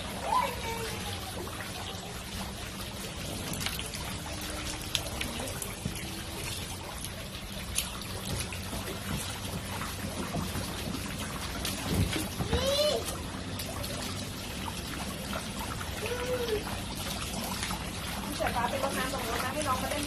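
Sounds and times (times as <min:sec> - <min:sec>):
small water splashes: 0:00.0 - 0:20.0
water pouring and trickling: 0:00.0 - 0:20.0.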